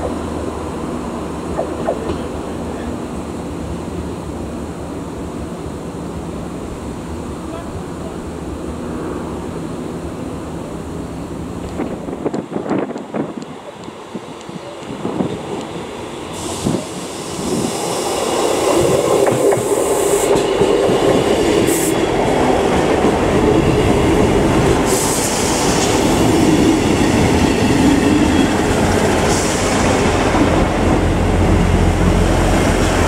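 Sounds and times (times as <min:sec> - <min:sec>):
diesel train passing: 0:00.0 - 0:33.0.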